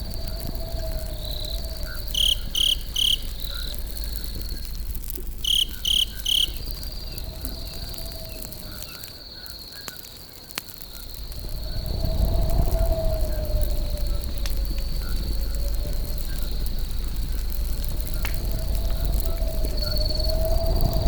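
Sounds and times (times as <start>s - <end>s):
insect sharp chirps: 0.0s - 10.2s, 10.8s - 21.0s
campfire crackling: 0.0s - 21.0s
crickets trilling: 0.0s - 21.0s.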